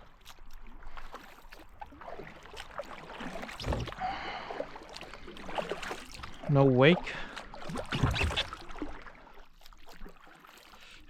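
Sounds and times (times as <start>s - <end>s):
kayak paddles splashing in water: 0.0s - 11.0s.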